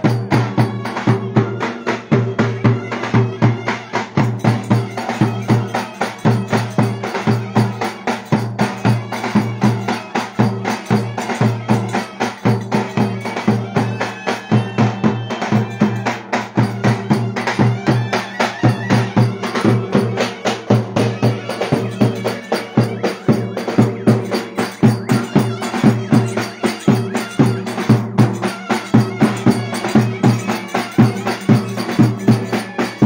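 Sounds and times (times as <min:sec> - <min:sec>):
drum beating quick rhythm: 0:00.0 - 0:33.0.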